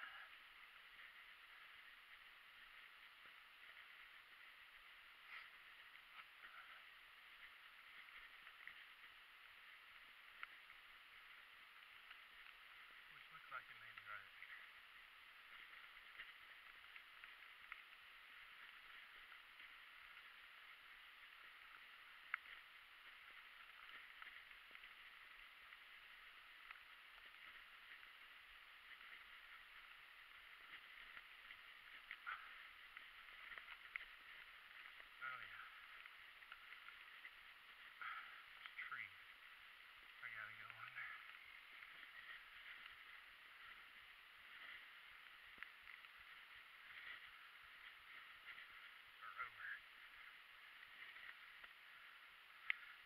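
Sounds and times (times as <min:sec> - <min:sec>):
faint steady hiss: 0:00.0 - 0:53.0
faint ticks: 0:00.0 - 0:53.0.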